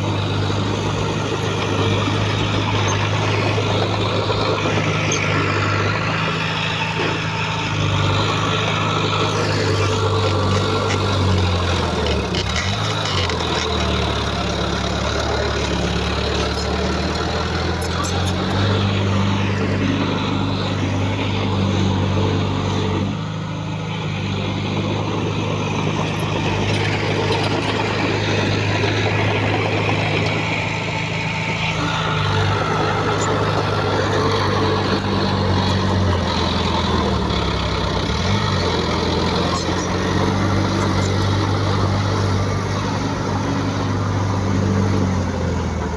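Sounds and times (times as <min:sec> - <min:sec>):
heavy diesel machinery engine: 0:00.0 - 0:45.9.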